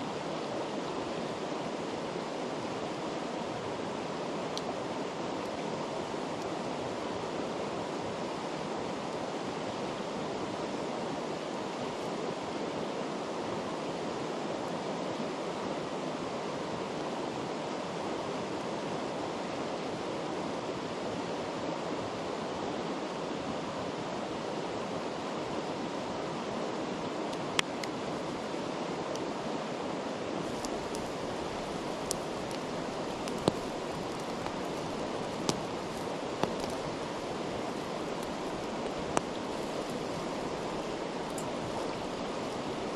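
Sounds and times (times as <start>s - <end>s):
river rushing: 0.0s - 42.9s.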